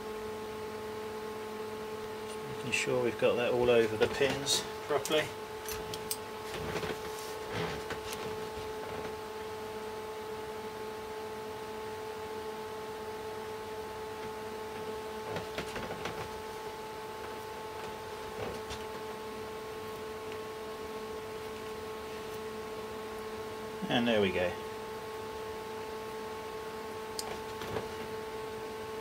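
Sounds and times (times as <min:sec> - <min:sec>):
cooling fans humming: 0:00.0 - 0:29.0.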